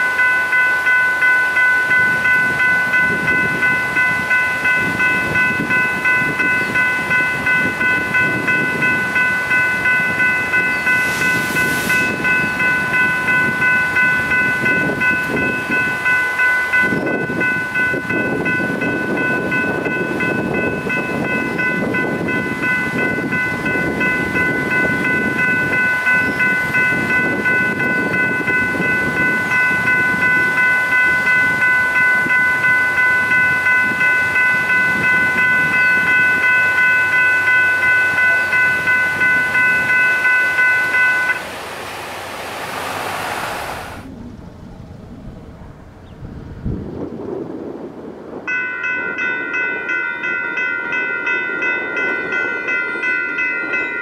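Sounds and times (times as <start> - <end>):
crossing bell ringing: 0.0 - 42.4, 48.5 - 54.0
passing train rumble: 0.0 - 54.0.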